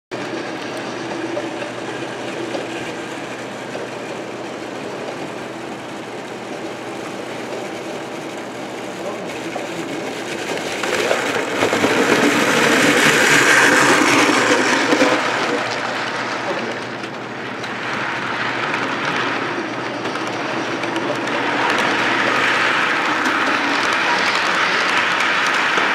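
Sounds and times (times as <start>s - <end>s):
model train rumbling on track: 0.1s - 25.9s.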